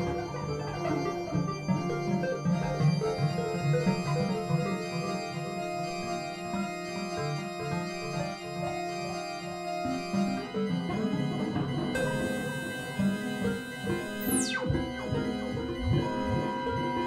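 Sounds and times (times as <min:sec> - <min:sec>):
organ-like keyboard chords: 0:00.0 - 0:17.0.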